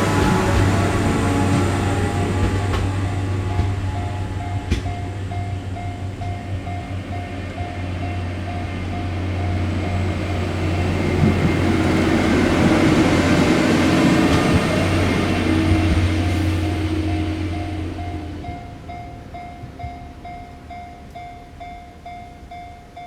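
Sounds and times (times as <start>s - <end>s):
track maintenance machine engine: 0.0s - 18.5s.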